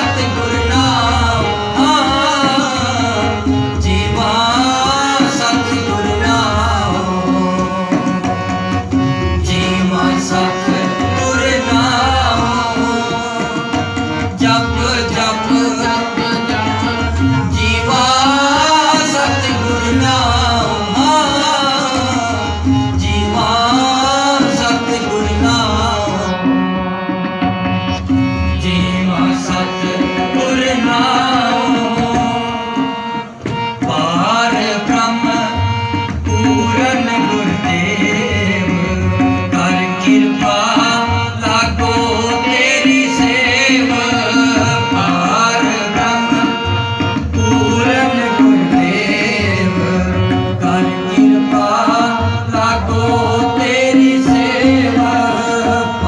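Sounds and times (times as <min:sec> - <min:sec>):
harmonium chords: 0:00.0 - 0:56.0
man singing: 0:00.0 - 0:56.0
tabla rhythm: 0:00.0 - 0:56.0.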